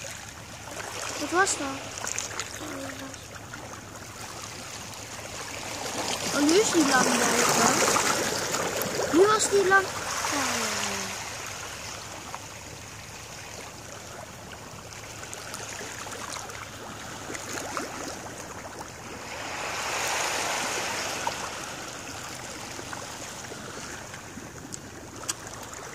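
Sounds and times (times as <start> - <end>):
small waves lapping: 0.0 - 25.9.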